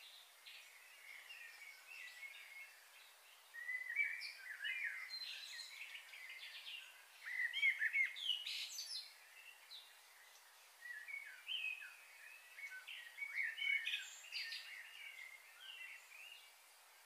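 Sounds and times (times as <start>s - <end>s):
birds chirping: 0.0s - 17.0s
faint steady hiss: 0.0s - 17.0s.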